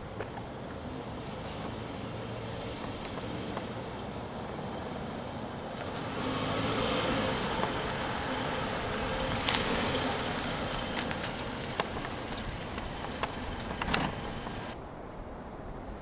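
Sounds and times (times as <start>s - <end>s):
car engine and tyres: 0.0s - 16.0s.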